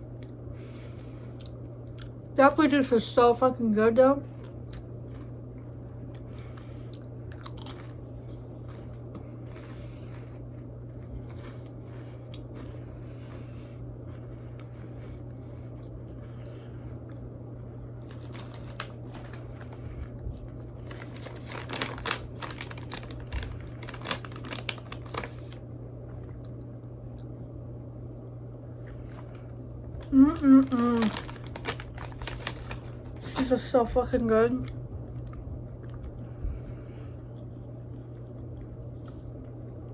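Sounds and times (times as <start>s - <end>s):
low electrical hum: 0.0s - 39.9s
crackers and packaging crinkling: 1.1s - 27.4s, 28.7s - 39.6s.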